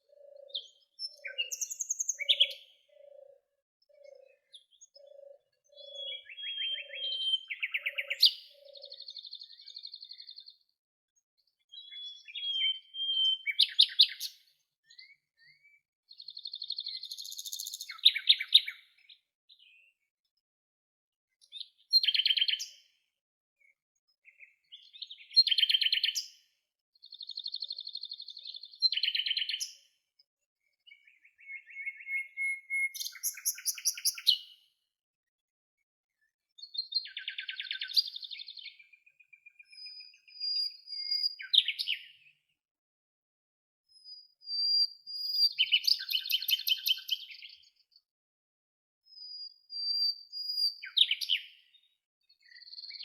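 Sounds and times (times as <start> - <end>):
songbird singing: 0.0 - 10.8, 11.4 - 20.4, 21.4 - 23.0, 23.6 - 30.0, 30.6 - 34.8, 36.1 - 42.6, 43.9 - 48.1, 49.1 - 53.0.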